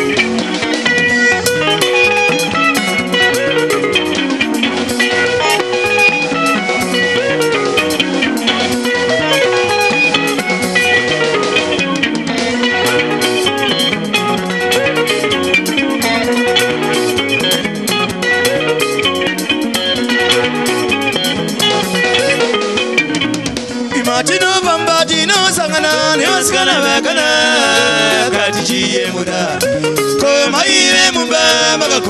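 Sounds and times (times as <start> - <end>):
bass guitar: 0.0 - 32.0
fast picked guitar: 0.0 - 32.0
steady drum beat: 0.0 - 32.0.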